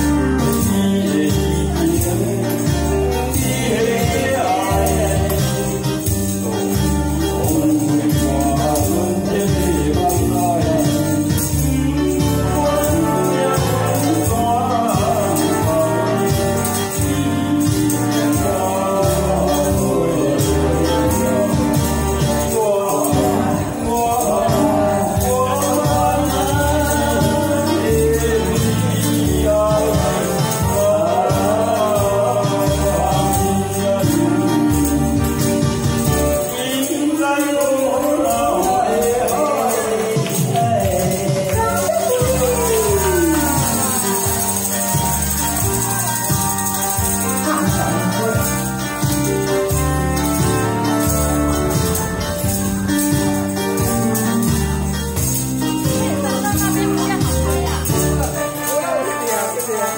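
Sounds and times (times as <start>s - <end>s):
karaoke backing track: 0.0s - 59.9s
man singing into a microphone: 0.0s - 59.9s.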